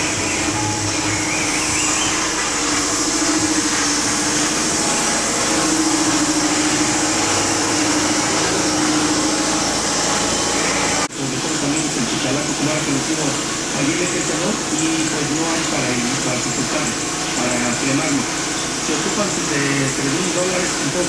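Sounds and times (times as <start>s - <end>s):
machine rushing noise: 0.0s - 21.0s.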